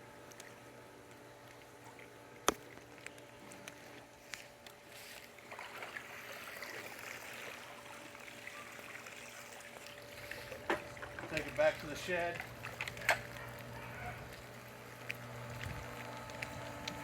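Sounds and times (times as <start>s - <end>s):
water splashing off pool hose: 0.1s - 17.0s.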